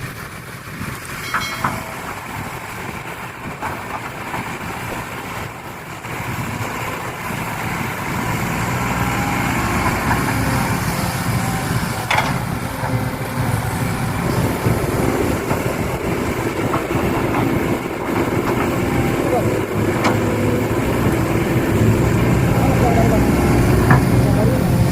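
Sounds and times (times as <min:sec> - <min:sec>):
heavy equipment engine running: 0:00.0 - 0:24.9.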